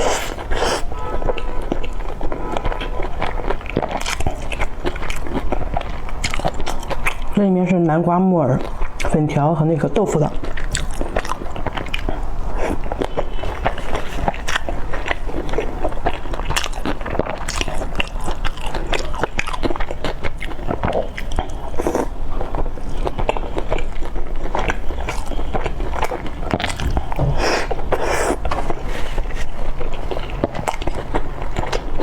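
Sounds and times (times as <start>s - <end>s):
chewing with wet mouth smacks: 0.0s - 32.0s.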